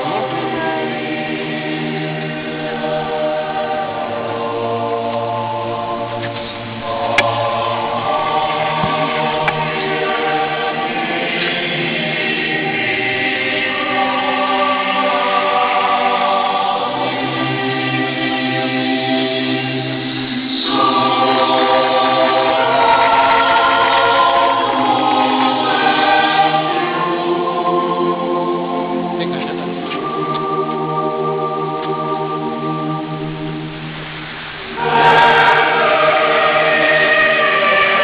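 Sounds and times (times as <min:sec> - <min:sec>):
slow choral music: 0:00.0 - 0:38.0.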